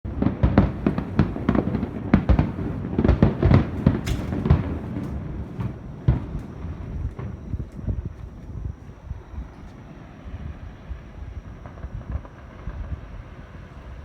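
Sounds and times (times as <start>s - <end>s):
fireworks bangs: 0.1s - 14.0s.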